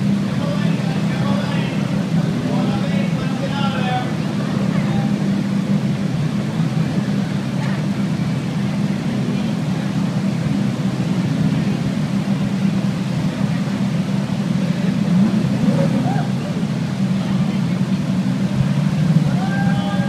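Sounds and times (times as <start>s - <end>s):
car engines idling: 0.0s - 20.0s.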